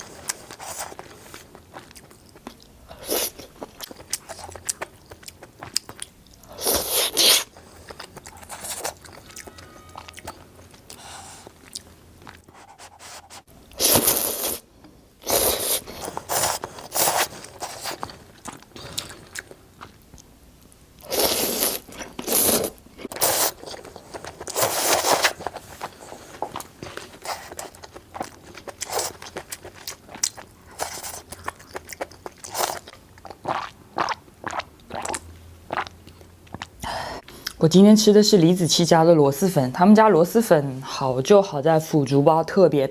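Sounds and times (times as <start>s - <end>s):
person chewing and crunching: 0.0s - 14.6s, 15.2s - 20.3s, 21.0s - 37.6s.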